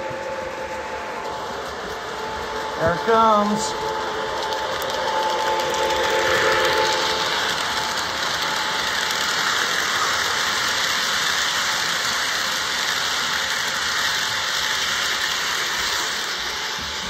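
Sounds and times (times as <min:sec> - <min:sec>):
model train wheels on rail: 0:00.0 - 0:17.0.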